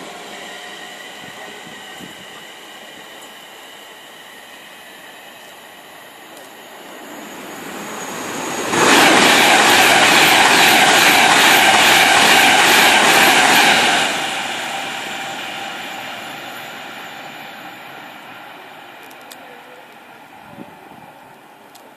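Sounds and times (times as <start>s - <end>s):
train passing at speed: 0.0s - 21.9s.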